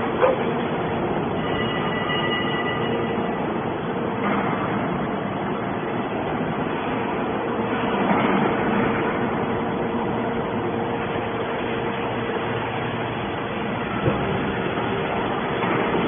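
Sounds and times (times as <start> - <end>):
steady hum-like tone: 0.0 - 16.0.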